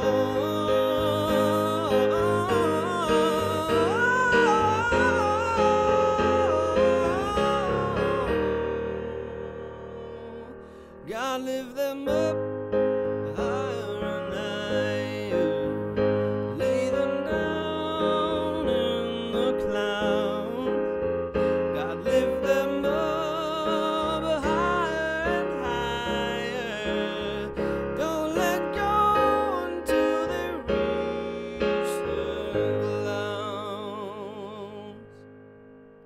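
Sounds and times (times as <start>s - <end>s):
man singing with vibrato: 0.0s - 35.3s
digital piano chords: 0.0s - 36.0s.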